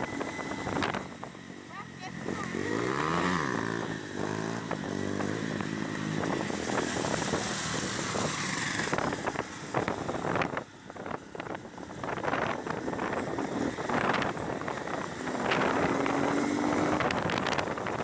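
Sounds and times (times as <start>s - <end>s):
motorcycle engine running: 0.0s - 18.0s
wind rushing on microphone: 2.5s - 18.0s.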